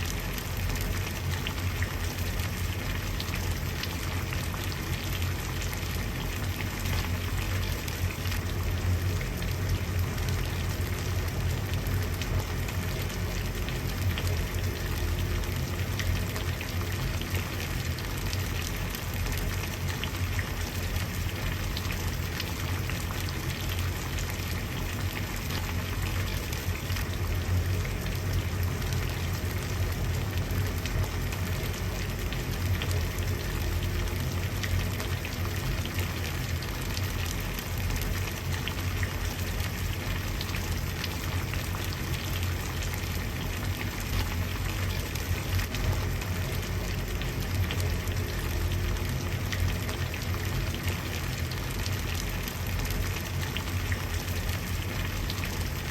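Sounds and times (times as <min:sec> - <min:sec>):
water boiling and bubbling: 0:00.0 - 0:55.9.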